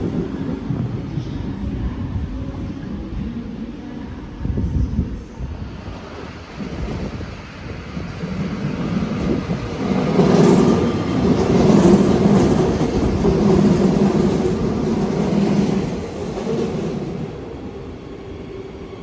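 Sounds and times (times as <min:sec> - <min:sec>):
train passing with rail noise: 0:00.0 - 0:19.0.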